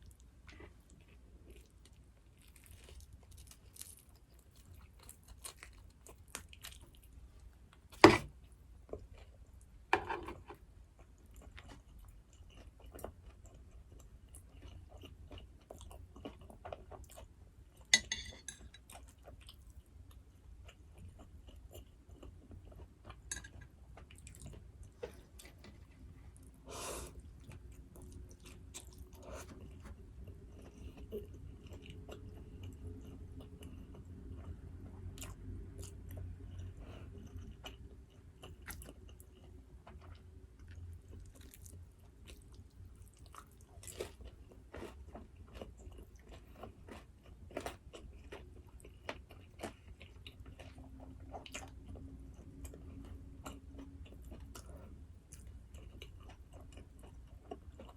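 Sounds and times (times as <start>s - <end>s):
chewing with wet clicks: 0.0s - 7.9s, 10.9s - 17.9s, 18.5s - 26.5s, 27.3s - 57.9s.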